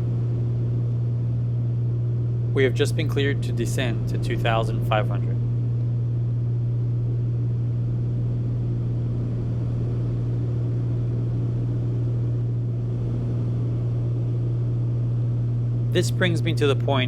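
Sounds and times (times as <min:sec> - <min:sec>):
airplane engines droning: 0:00.0 - 0:17.0.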